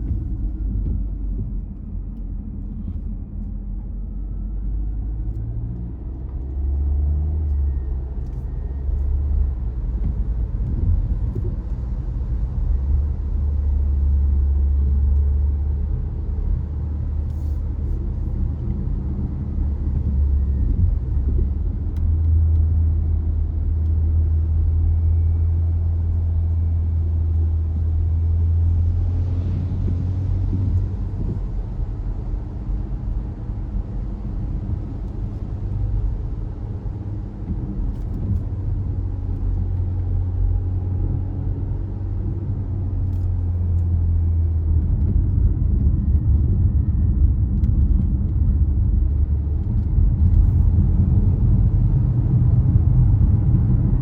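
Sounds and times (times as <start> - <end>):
car driving on road: 0.0 - 54.0.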